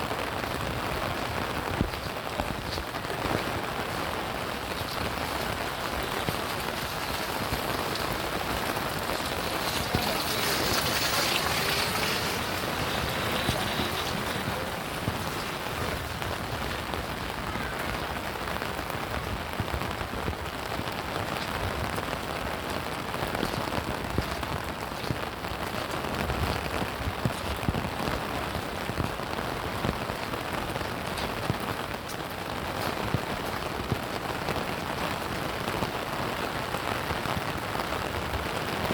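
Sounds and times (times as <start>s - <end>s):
steady rain hiss: 0.0s - 38.9s
raindrop taps: 0.4s - 36.6s.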